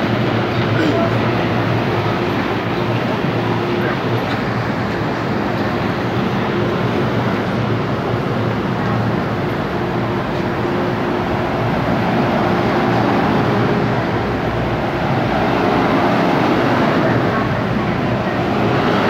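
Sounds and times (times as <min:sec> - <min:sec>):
train ventilation hum: 0:00.0 - 0:19.0.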